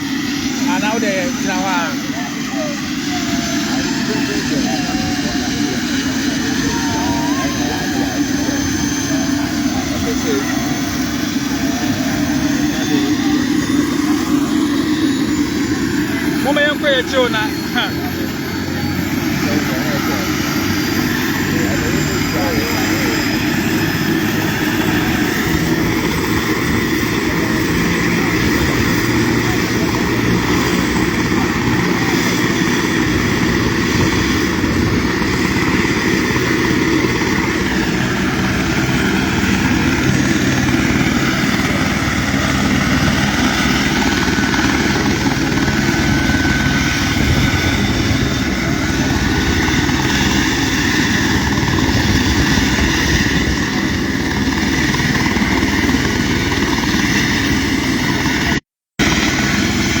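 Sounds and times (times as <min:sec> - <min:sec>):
engine running loudly: 0:00.0 - 1:00.0.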